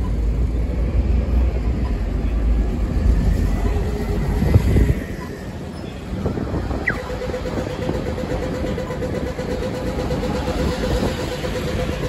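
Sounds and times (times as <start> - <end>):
bus engine passing: 0.0 - 12.0
low traffic rumble: 0.0 - 12.0.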